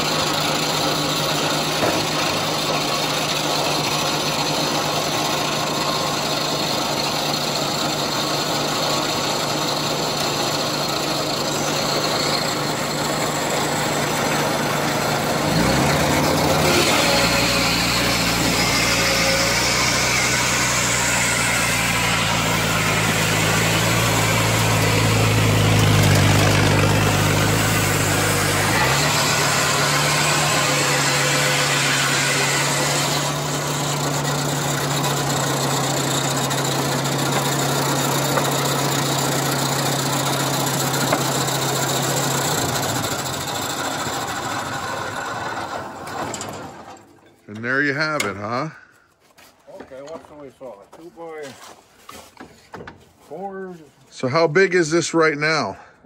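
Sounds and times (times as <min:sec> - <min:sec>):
sawmill engine running: 0:00.0 - 0:49.1
saw blade cutting log: 0:00.0 - 0:50.1.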